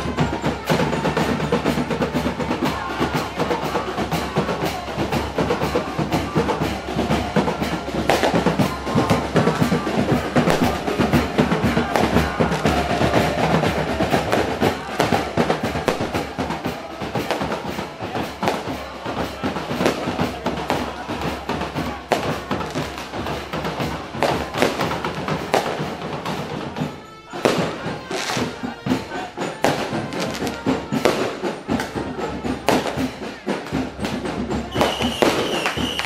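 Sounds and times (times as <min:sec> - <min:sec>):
music with loud drum strokes: 0:00.0 - 0:36.0.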